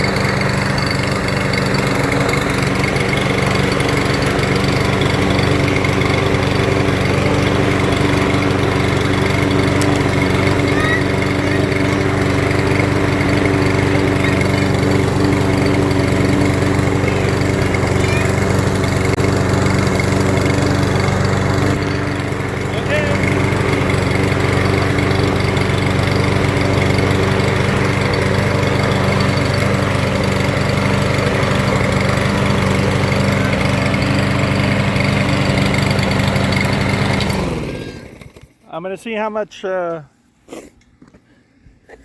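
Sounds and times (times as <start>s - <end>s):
lawn mower running: 0.0s - 40.0s.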